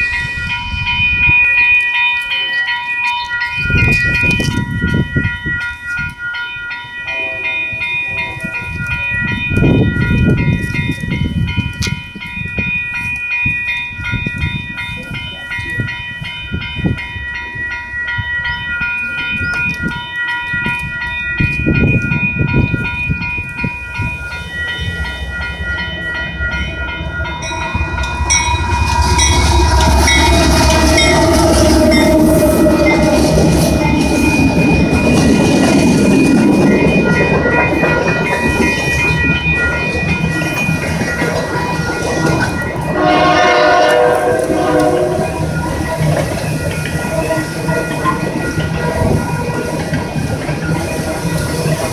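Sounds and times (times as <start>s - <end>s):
diesel locomotive engine rumble: 0.0s - 51.9s
grade-crossing bells ringing: 0.0s - 51.9s
train wheels rolling: 0.0s - 51.9s.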